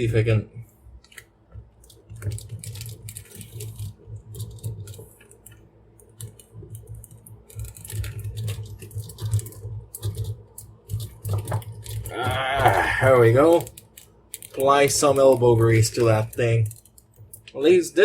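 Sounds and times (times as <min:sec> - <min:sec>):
toy parts clicking and scraping: 0:01.0 - 0:17.6.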